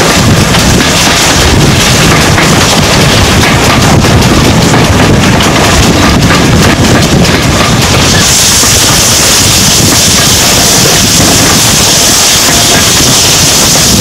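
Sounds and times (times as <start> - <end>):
train rumbling on track: 0.0 - 14.0
wind buffeting microphone: 0.0 - 14.0.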